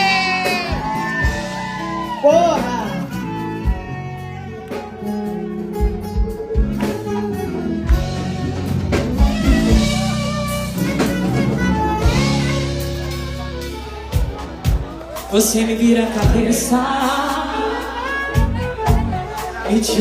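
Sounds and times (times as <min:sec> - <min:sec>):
live band playing instrumental: 0:00.0 - 0:20.0.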